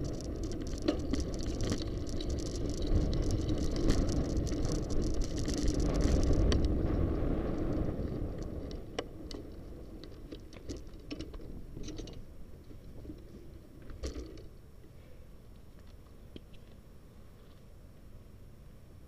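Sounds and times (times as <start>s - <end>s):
bicycle clicks and rattles: 0.0s - 16.8s
bicycle tyre rumble and wind: 0.0s - 19.0s.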